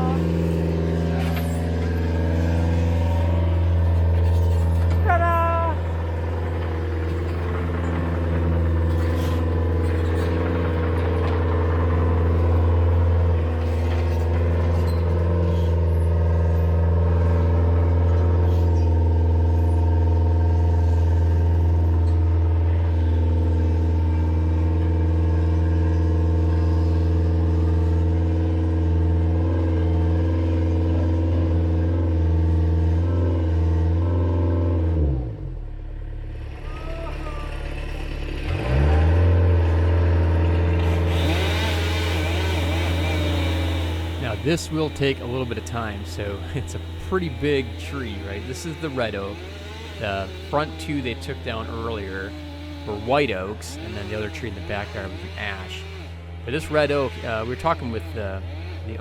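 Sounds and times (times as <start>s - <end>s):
large engine idling: 0.0s - 34.1s, 35.3s - 59.0s.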